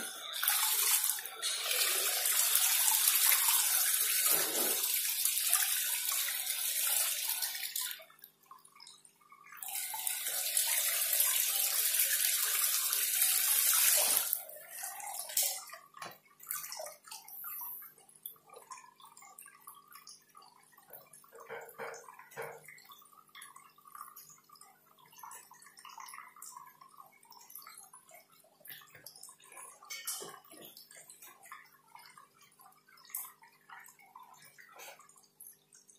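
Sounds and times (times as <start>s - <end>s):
water trickling and dripping: 0.0s - 35.9s.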